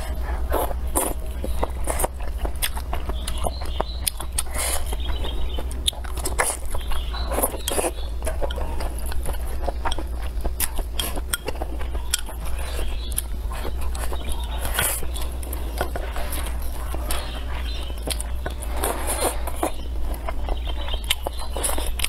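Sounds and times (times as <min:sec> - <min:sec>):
person chewing and slurping: 0:00.0 - 0:22.0
steady low hum: 0:00.0 - 0:22.0.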